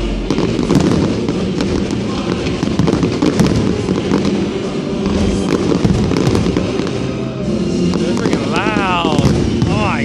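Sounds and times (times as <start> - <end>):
fireworks booming and crackling: 0.0 - 10.0.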